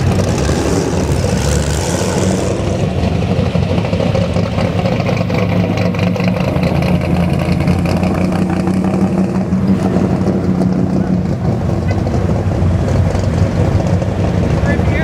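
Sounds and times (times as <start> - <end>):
car engines humming: 0.0 - 15.0.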